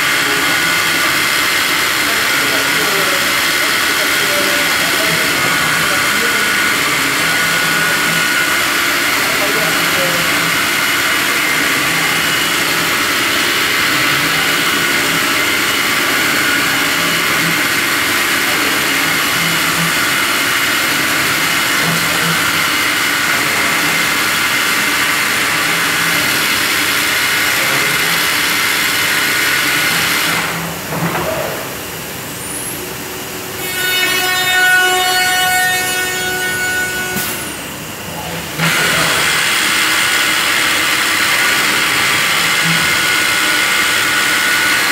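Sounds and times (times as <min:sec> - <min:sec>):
router cutting wood: 0:00.0 - 0:30.6, 0:33.6 - 0:37.6, 0:38.4 - 0:44.9.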